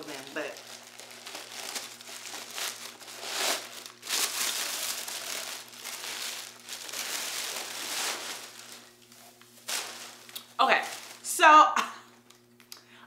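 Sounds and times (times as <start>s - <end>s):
paper wrap crumpling and rustling: 0.0s - 11.4s.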